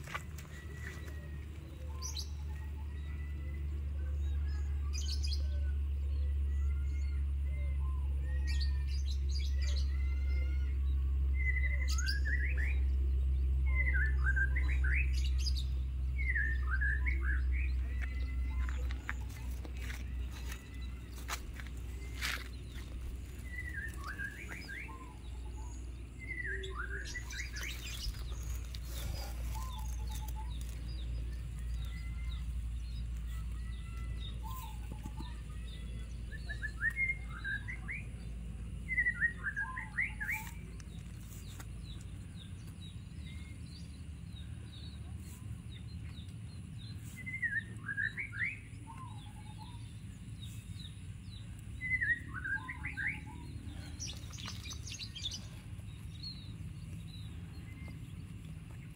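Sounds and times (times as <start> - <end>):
low steady rumble: 0.0 - 58.9
songbird singing: 0.0 - 58.9.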